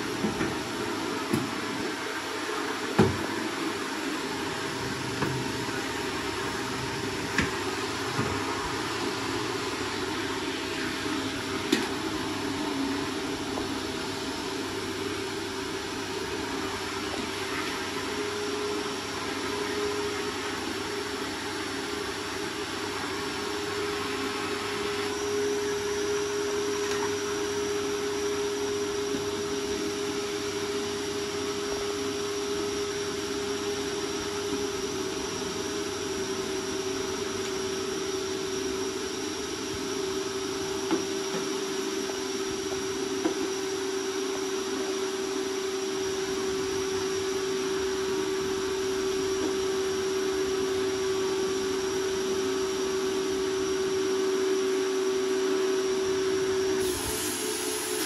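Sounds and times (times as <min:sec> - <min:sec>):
vacuum cleaner running: 0:00.0 - 0:58.0
high-pitched whine: 0:04.7 - 0:58.0.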